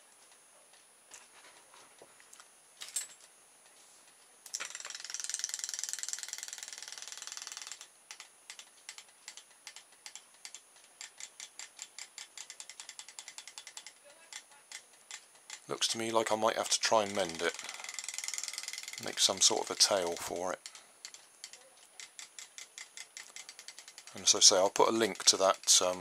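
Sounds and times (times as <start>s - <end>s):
toy fish motor rattling: 4.5s - 26.0s
sharp ticking: 4.6s - 26.0s.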